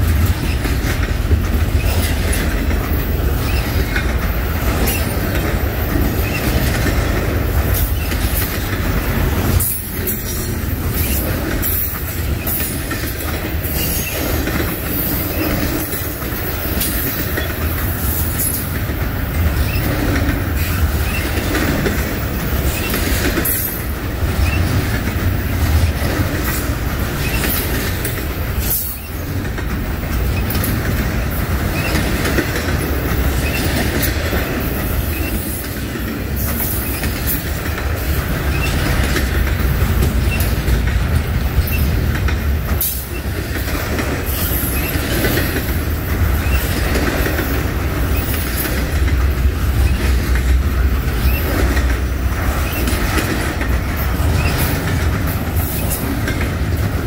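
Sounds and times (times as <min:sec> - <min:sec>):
freight train rumbling past: 0:00.0 - 0:57.0
train wheels clattering on rails: 0:00.0 - 0:57.0.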